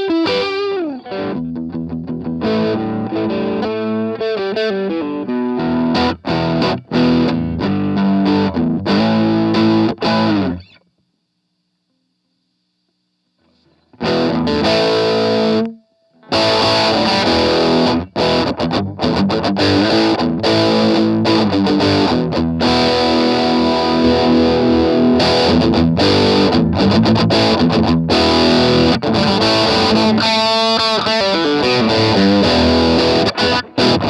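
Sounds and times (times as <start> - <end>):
distorted electric guitar: 0.0 - 10.9, 13.4 - 34.0.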